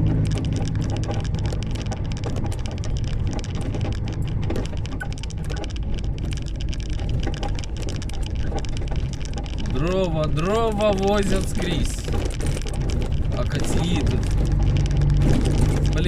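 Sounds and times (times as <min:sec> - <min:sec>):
cab rattles and knocks: 0:00.0 - 0:16.0
truck engine and road rumble: 0:00.0 - 0:16.0.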